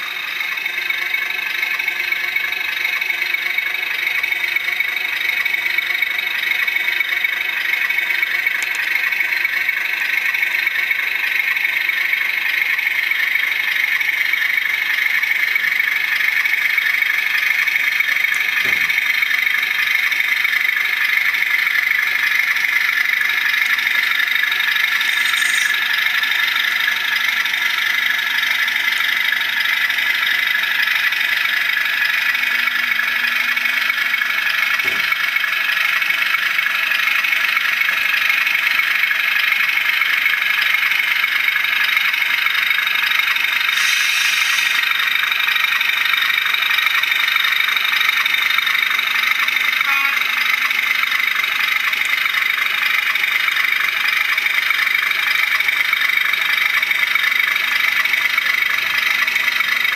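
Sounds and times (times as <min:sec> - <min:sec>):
diesel engine through small loudspeaker: 0:00.0 - 0:59.9.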